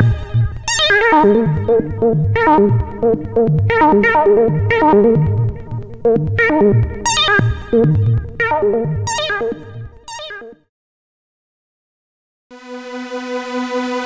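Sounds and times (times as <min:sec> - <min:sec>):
pulsing synthesizer bass line: 0:00.0 - 0:10.5, 0:12.5 - 0:14.0.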